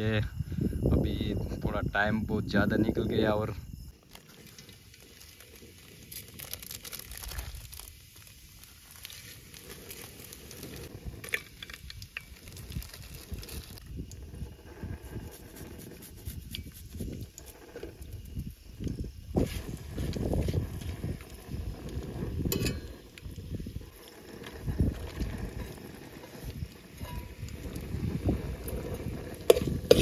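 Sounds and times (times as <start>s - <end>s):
spices crackling in hot oil: 3.8s - 30.0s.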